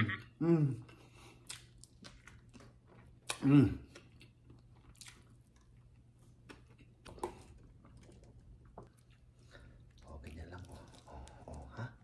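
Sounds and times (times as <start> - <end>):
soft chewing mouth sounds: 0.8 - 12.0.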